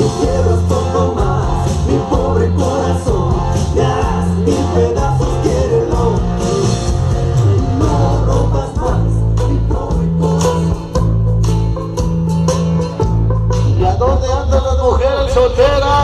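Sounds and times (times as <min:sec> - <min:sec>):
loud music with singing and bass: 0:00.0 - 0:16.0.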